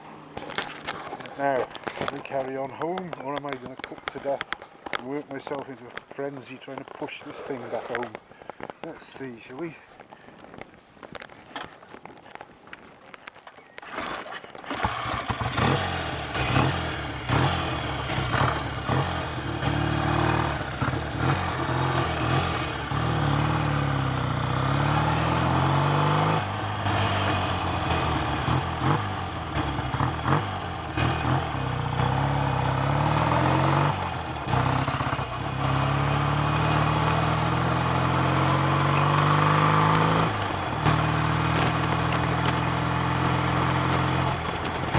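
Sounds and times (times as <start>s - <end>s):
motorcycle engine revving: 0.0s - 9.6s, 13.8s - 44.9s.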